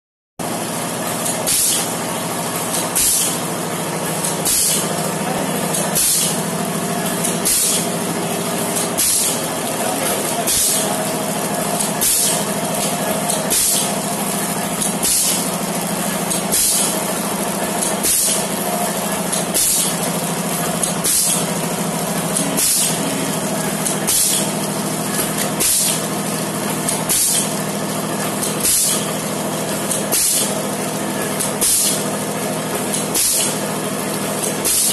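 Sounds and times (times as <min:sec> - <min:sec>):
machine motor hum: 0:00.4 - 0:34.9.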